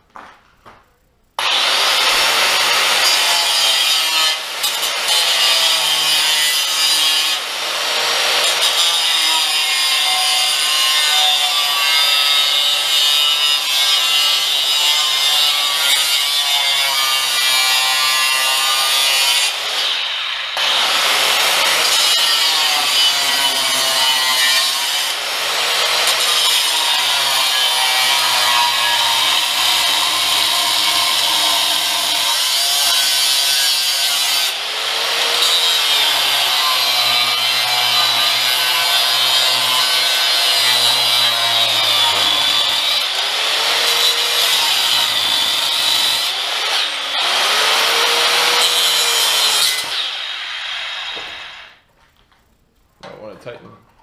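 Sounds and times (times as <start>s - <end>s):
angle grinder cutting aluminum: 1.4s - 51.8s.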